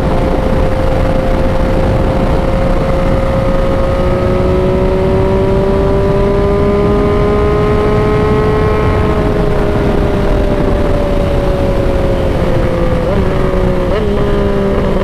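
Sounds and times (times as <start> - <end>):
motorcycle engine whine: 0.0 - 15.0
wind rush on microphone: 0.0 - 15.0.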